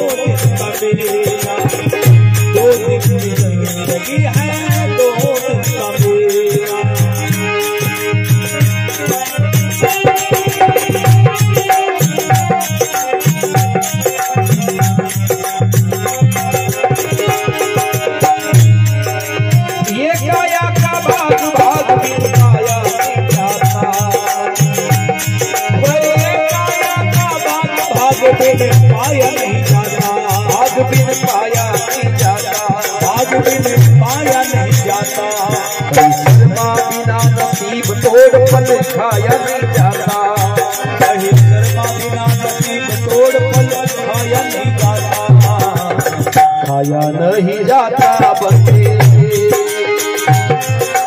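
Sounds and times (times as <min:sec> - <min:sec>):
harmonium melody: 0:00.0 - 0:51.0
jingling shaken percussion: 0:00.0 - 0:51.0
hand drum beat: 0:06.8 - 0:51.0.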